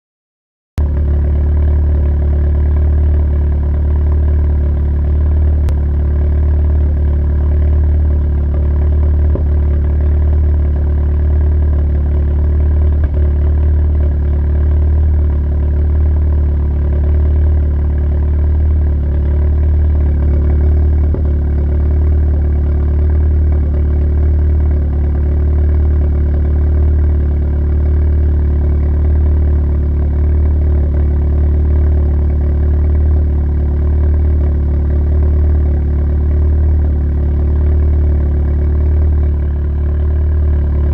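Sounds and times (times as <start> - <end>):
car engine idling: 0.8 - 40.9.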